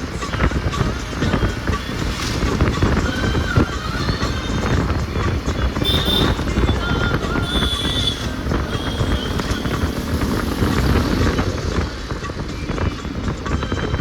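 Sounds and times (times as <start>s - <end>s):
low vehicle rumble: 0.0s - 14.0s
street noise: 0.0s - 14.0s.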